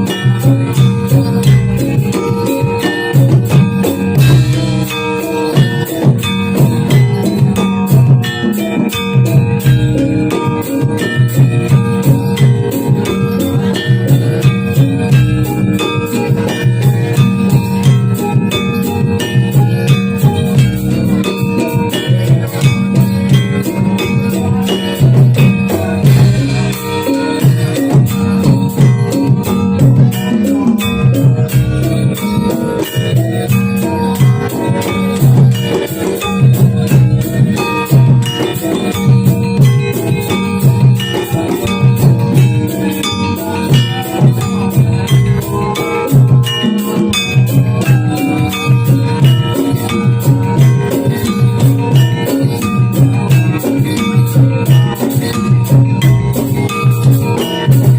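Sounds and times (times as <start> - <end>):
drums and percussion beat: 0.0 - 57.9
gamelan ensemble music: 0.0 - 57.9
metallophones ringing: 0.0 - 57.9
struck metal instruments: 0.0 - 57.9.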